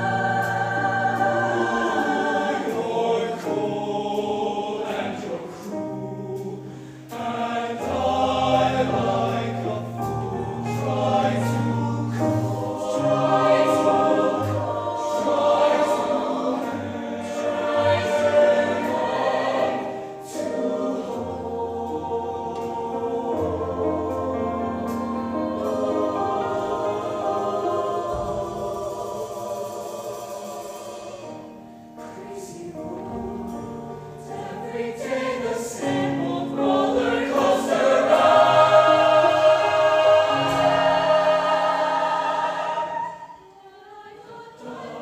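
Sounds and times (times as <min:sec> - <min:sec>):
choir singing held notes: 0:00.0 - 0:45.0.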